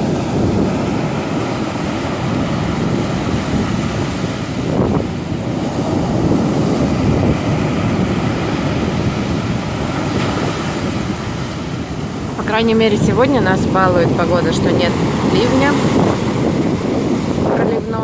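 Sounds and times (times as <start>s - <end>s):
surf breaking on pebble beach: 0.0s - 17.9s
wind buffeting microphone: 0.0s - 18.0s.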